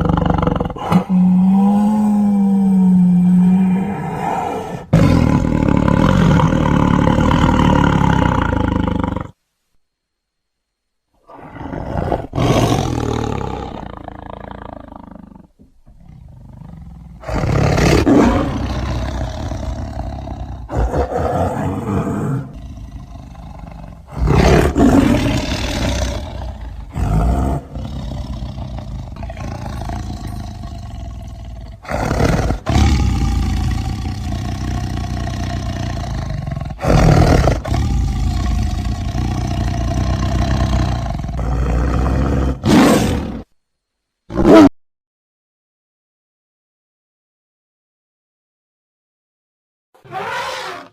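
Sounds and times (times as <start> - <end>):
large animal roaring and growling: 0.0 - 9.4, 11.2 - 43.5, 50.0 - 50.9.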